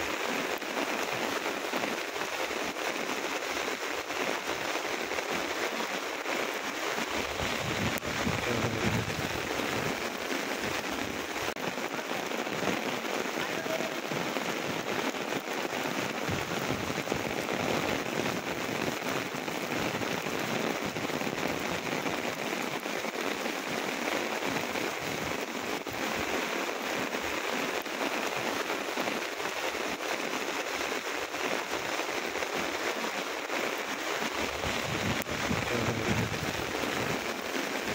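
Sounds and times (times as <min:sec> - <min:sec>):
heavy rain on wet paving: 0:00.0 - 0:37.9.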